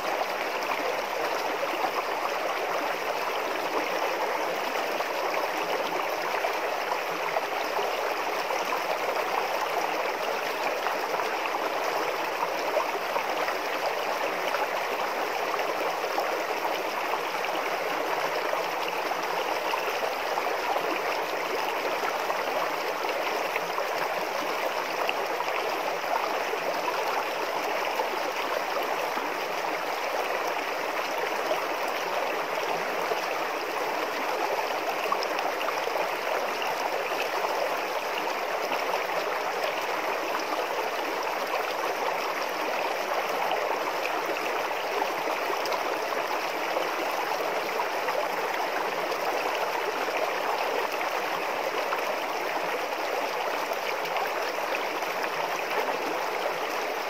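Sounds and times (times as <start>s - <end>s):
river babbling over rocks: 0.0s - 57.0s.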